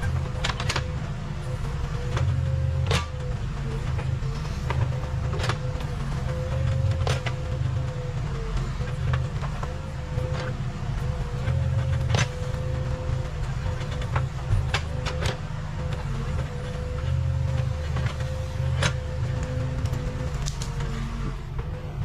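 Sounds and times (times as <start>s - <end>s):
constant engine whine: 0.0s - 22.0s
diesel engine rumbling: 0.0s - 22.0s.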